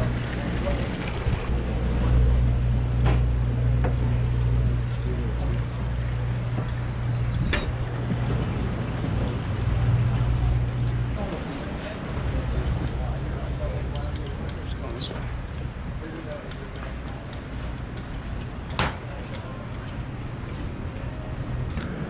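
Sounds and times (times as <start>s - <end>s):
boat engine humming: 0.0s - 22.0s
outdoor noise: 0.0s - 22.0s.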